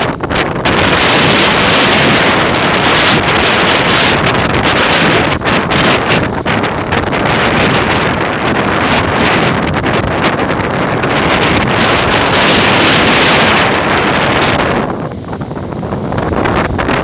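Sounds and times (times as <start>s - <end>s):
ocean waves and surf: 0.0s - 17.0s
wind buffeting microphone: 0.0s - 17.0s.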